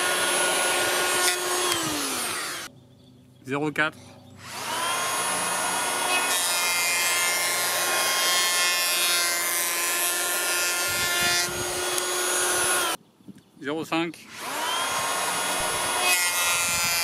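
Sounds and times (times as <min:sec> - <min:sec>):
electric planer motor whine: 0:00.0 - 0:02.7, 0:04.5 - 0:13.0, 0:14.4 - 0:17.0
planer blades rasping wood: 0:00.0 - 0:02.7, 0:04.4 - 0:13.0, 0:14.4 - 0:17.0.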